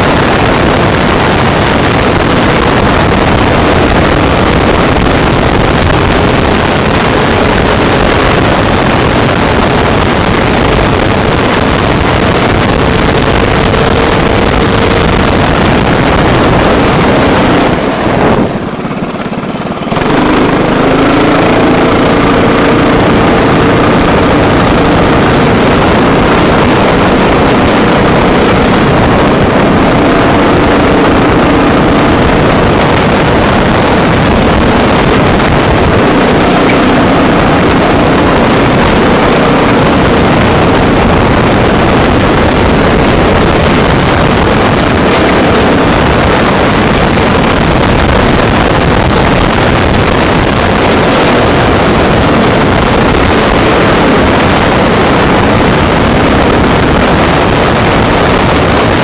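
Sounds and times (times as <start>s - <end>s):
kart engine under throttle: 0.0s - 59.0s
wind noise on microphone: 0.0s - 59.0s.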